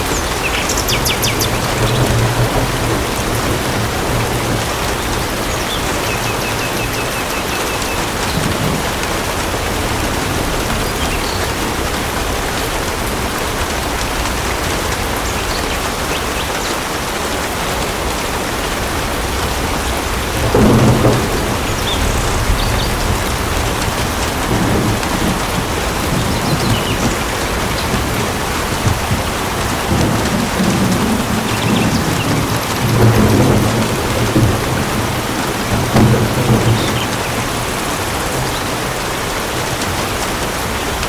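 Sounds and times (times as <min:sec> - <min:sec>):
heavy rain pouring: 0:00.0 - 0:41.0
thunder rumbling: 0:00.0 - 0:41.0.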